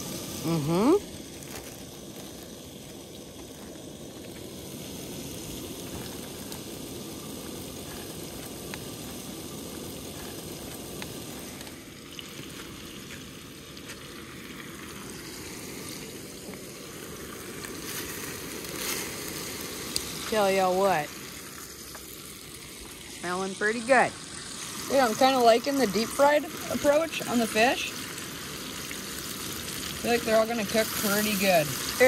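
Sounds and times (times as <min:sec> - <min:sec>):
chicken sizzling in a skillet: 0:00.0 - 0:32.0.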